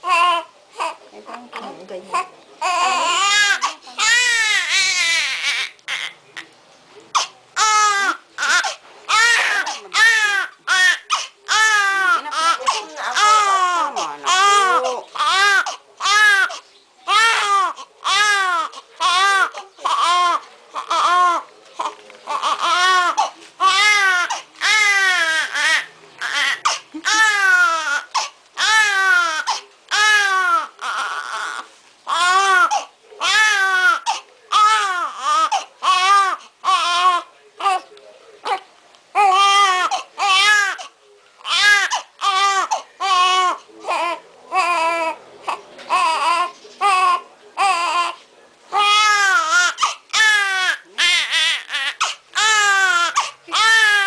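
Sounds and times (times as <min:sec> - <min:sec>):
newborn baby crying: 0:00.0 - 0:06.2, 0:07.1 - 0:37.8, 0:39.2 - 0:54.0.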